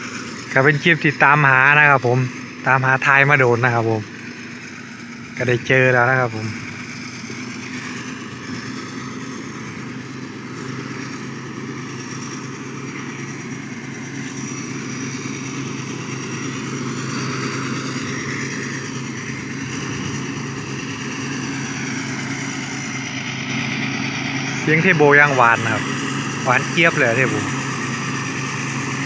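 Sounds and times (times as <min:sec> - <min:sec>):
diesel engine running: 0:00.0 - 0:29.0
turbo whine: 0:00.0 - 0:29.0.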